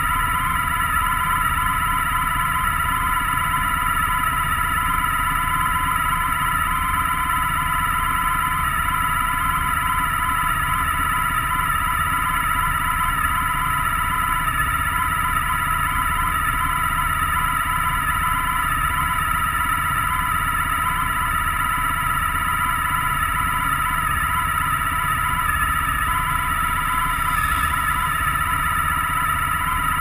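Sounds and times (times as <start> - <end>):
vehicle engine idling with whine: 0.0 - 30.0.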